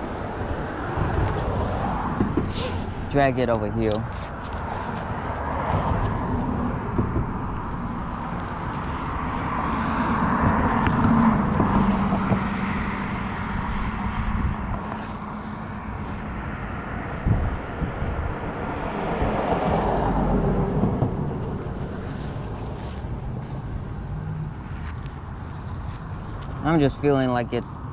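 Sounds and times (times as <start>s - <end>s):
outdoor rumble: 0.0s - 27.1s
passing vehicle engine: 0.0s - 27.9s.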